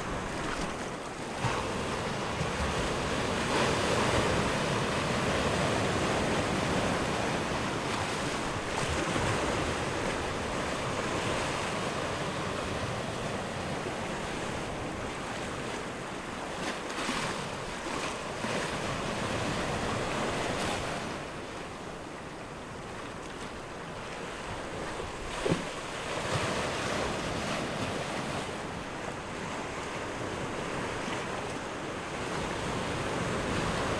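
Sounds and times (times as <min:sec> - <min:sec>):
waves: 0:00.0 - 0:33.9
wind: 0:00.0 - 0:33.9.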